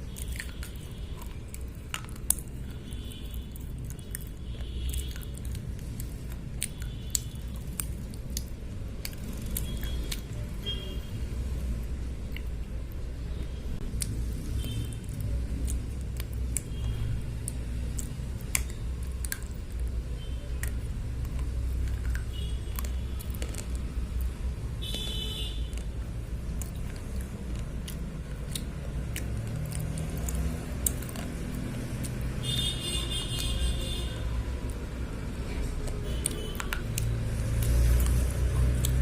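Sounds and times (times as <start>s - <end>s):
chewing crunches and snaps: 0.0s - 13.2s, 13.8s - 39.0s.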